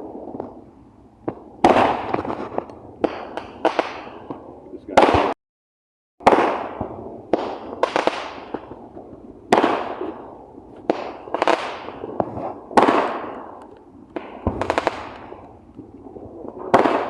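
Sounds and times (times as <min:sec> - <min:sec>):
crackling firework pops: 0:00.0 - 0:05.4, 0:06.2 - 0:17.0
fireworks bangs: 0:00.0 - 0:05.4, 0:06.2 - 0:17.0.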